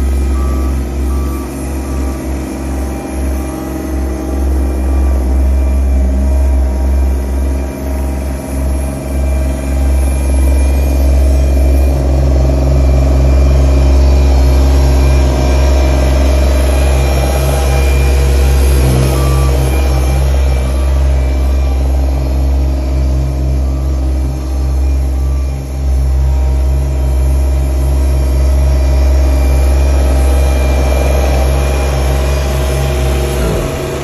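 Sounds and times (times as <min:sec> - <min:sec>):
drum roller diesel drone: 0:00.0 - 0:34.0.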